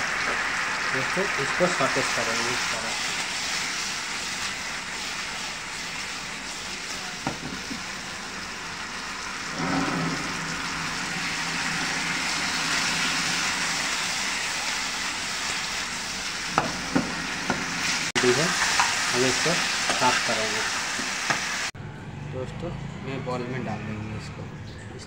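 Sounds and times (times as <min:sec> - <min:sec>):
chicken sizzling in frying pan: 0:00.0 - 0:21.8.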